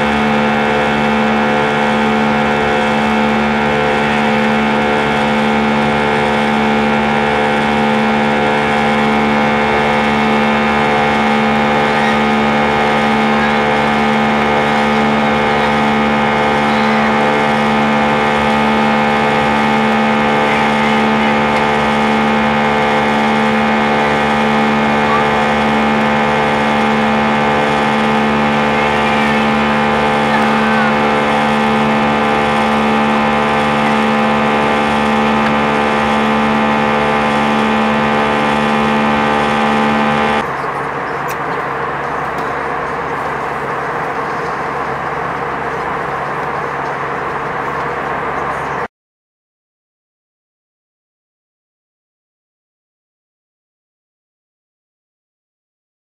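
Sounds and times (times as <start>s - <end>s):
jet engine drone in cabin: 0.0s - 48.9s.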